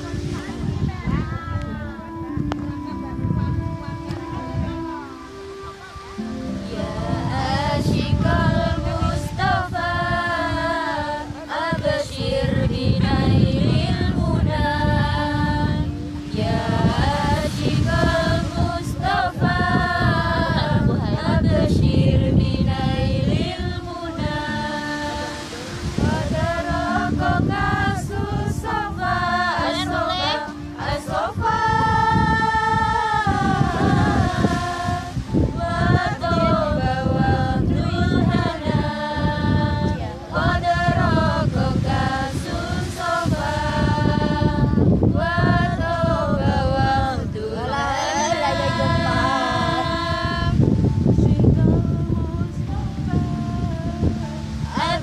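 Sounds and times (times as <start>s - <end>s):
women singing devotional songs: 0.0s - 4.6s, 6.4s - 55.0s.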